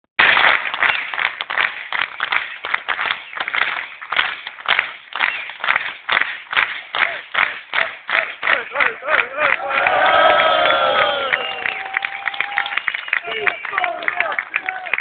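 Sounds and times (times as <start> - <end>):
crowd clapping in unison: 0.2 - 15.0.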